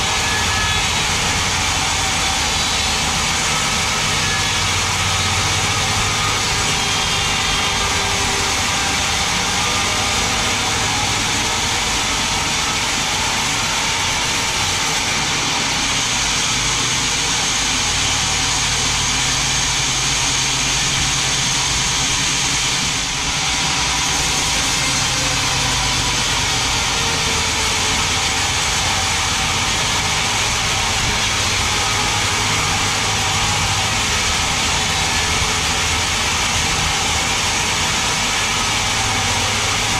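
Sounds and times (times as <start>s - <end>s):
machine humming: 0.0s - 39.9s
saw blade hissing through wood: 0.0s - 39.9s.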